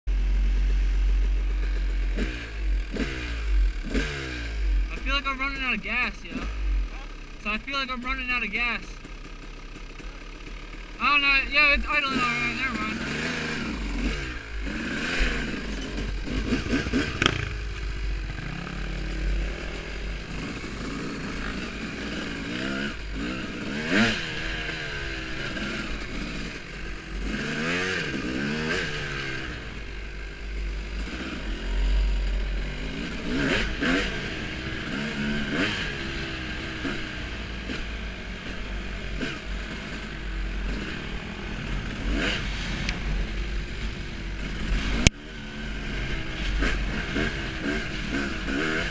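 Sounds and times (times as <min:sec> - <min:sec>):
dirt bike engine revving: 0:00.1 - 0:48.9.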